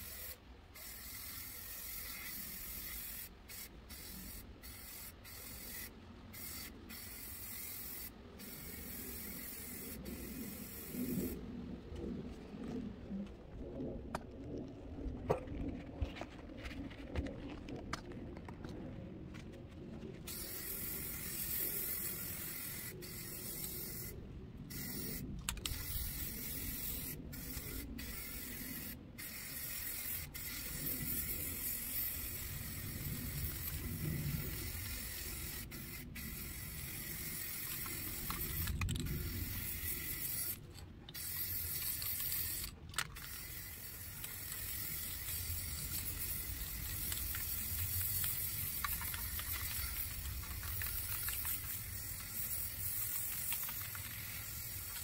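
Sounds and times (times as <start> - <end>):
spray-paint can hissing: 0.0 - 11.4, 20.3 - 55.0.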